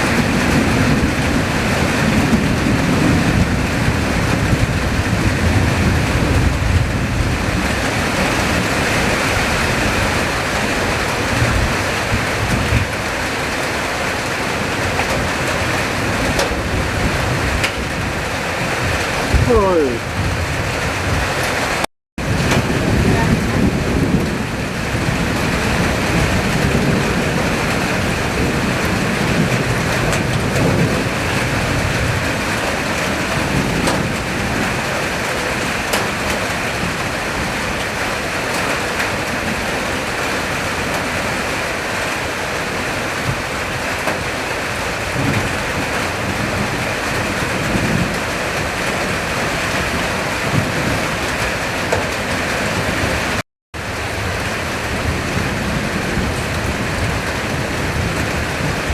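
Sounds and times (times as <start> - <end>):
heavy rain: 0.0 - 58.9
thunder rumbles: 0.0 - 58.9.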